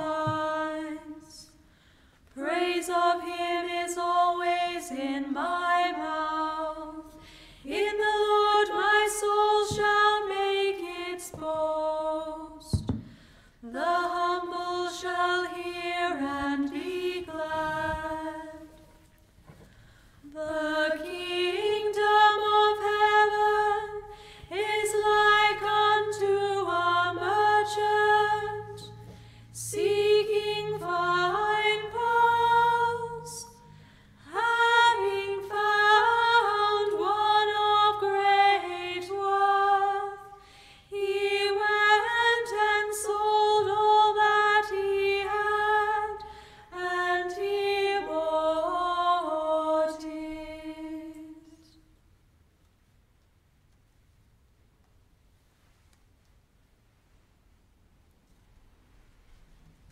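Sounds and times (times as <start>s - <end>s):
person singing a hymn: 0.0s - 1.6s, 2.4s - 19.0s, 20.2s - 51.8s
faint low hum: 0.0s - 59.9s.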